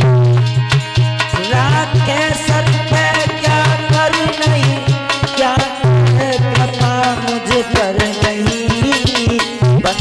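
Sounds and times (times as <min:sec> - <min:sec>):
hand drum beating: 0:00.0 - 0:10.0
held melody: 0:00.0 - 0:10.0.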